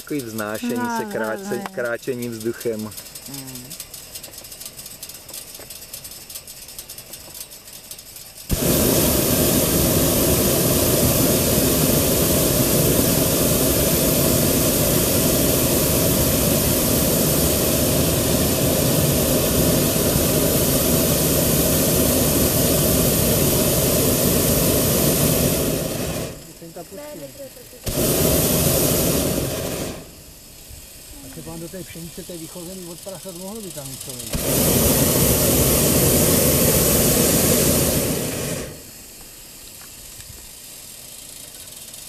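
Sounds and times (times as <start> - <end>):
propane burner blast: 0.0 - 42.0.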